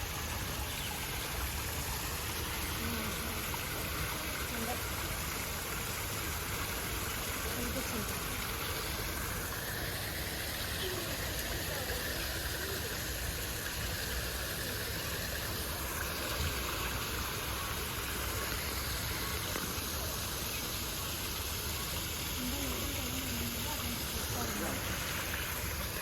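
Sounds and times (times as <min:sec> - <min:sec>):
falling water rushing: 0:00.0 - 0:26.0
faint voices: 0:02.0 - 0:26.0.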